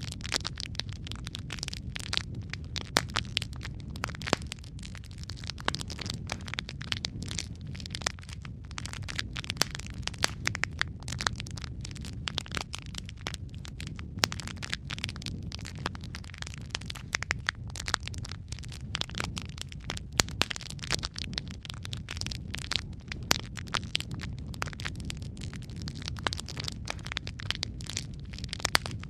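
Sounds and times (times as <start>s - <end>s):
logs crackling in fireplace: 0.0s - 29.0s.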